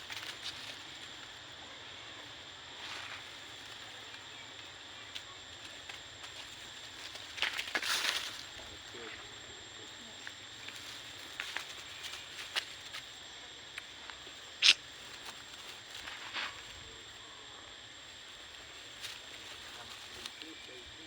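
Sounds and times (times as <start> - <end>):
faint high-pitched ambience: 0.0 - 21.0.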